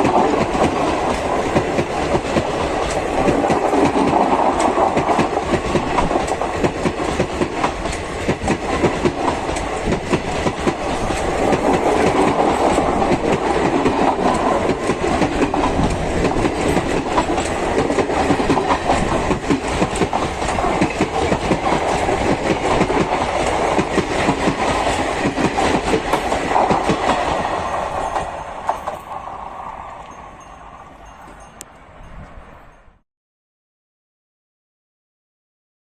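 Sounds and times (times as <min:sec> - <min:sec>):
train wheels clattering: 0:00.0 - 0:32.8.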